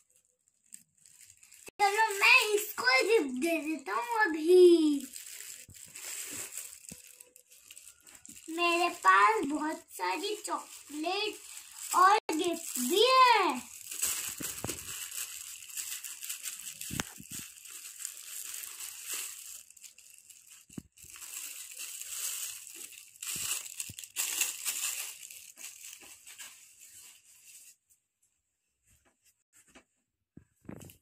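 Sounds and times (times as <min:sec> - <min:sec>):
wrappers crinkling and rustling: 0:00.0 - 0:27.8.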